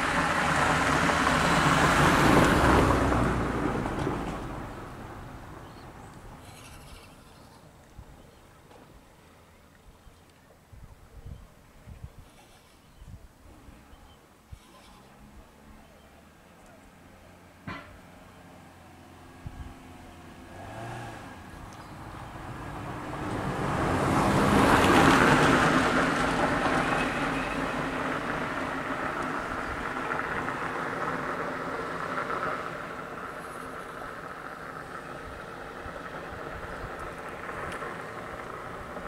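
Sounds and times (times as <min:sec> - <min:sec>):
cars driving past: 0:00.0 - 0:07.6, 0:14.9 - 0:39.0.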